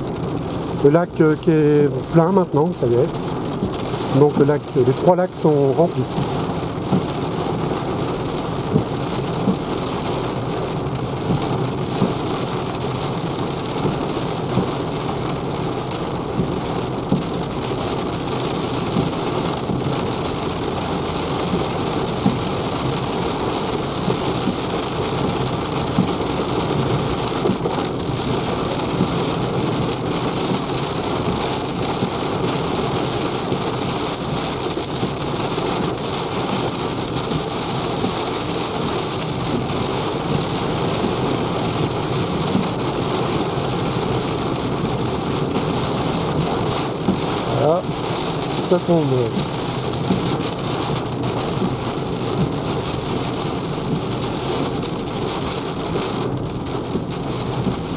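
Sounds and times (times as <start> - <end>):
heavy rain on car roof: 0.0 - 57.9.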